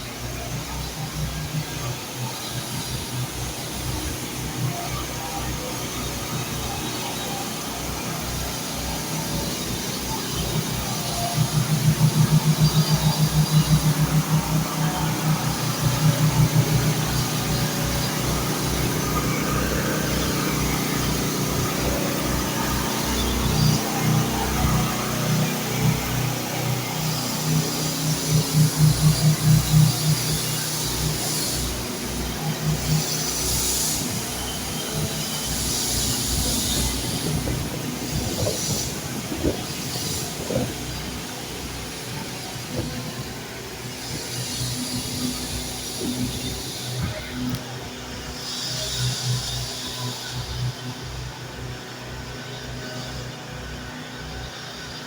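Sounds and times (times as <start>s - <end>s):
engine running: 0.0s - 55.0s
train rumbling: 0.0s - 55.0s.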